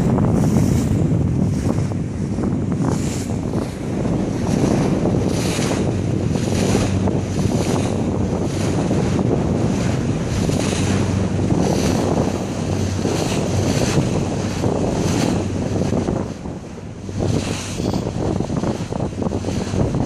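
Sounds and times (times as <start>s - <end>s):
boat engine humming: 0.0s - 20.0s
water rushing past hull: 0.0s - 20.0s
wind buffeting microphone: 0.0s - 20.0s.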